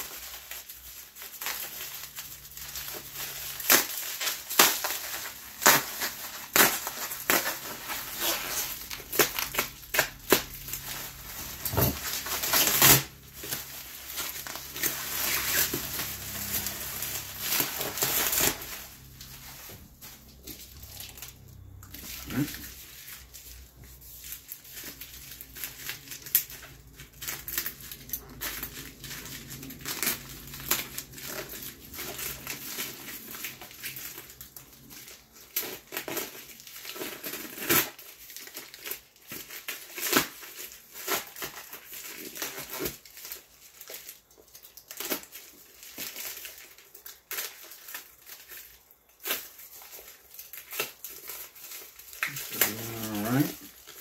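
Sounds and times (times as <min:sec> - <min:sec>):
plastic mailer crinkling and tearing: 0:00.0 - 0:54.0.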